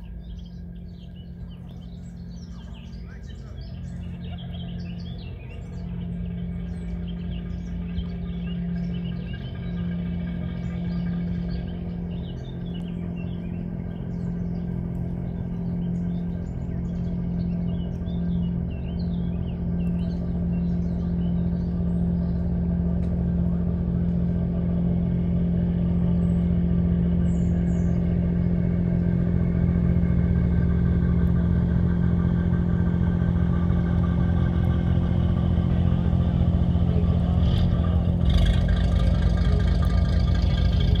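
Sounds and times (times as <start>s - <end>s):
boat engine humming: 0.0s - 41.0s.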